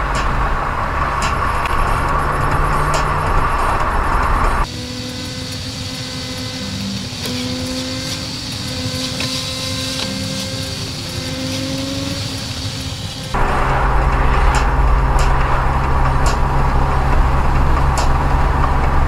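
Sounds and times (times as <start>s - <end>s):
road rumble: 0.0s - 4.7s, 5.5s - 19.0s
vehicle engine humming: 0.0s - 19.0s.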